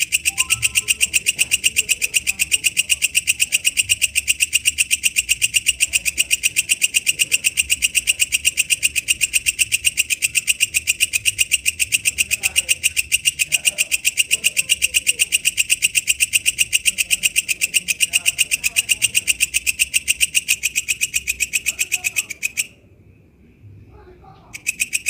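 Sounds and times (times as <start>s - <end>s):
katydid high-pitched pulsing call: 0.0s - 22.7s, 24.5s - 25.0s.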